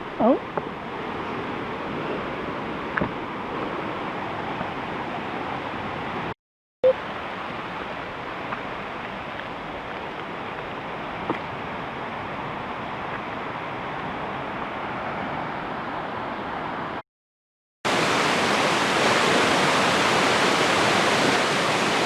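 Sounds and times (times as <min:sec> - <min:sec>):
river water rushing: 0:00.0 - 0:17.0, 0:17.9 - 0:22.0.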